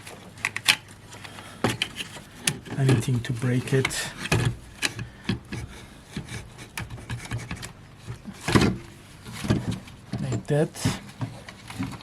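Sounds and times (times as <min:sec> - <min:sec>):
metal scrapes and small knocks: 0:01.7 - 0:12.0.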